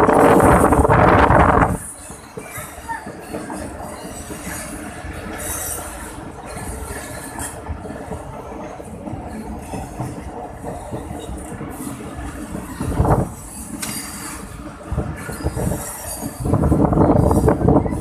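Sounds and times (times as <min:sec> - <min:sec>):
train coach rattling: 0:00.0 - 0:18.0
train wheels clattering over rails: 0:00.0 - 0:18.0.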